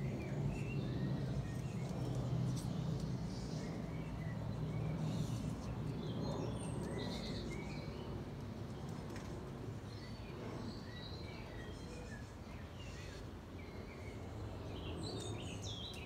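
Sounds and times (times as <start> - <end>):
small birds chirping and singing: 0.0 - 16.0.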